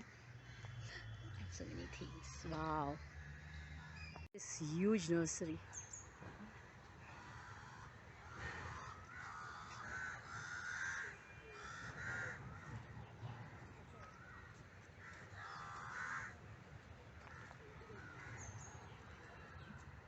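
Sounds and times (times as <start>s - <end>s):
crows cawing: 0.0s - 4.1s, 6.4s - 19.0s.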